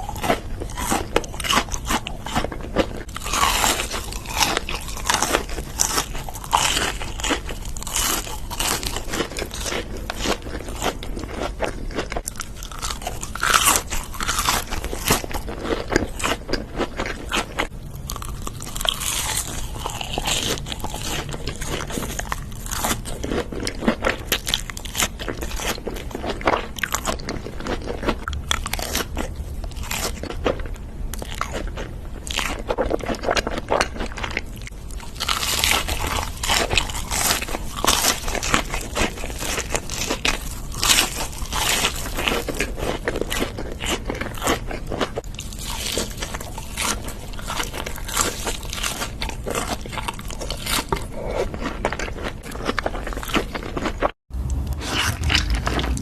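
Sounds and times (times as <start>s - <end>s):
crunchy food being chewed: 0.0s - 56.0s.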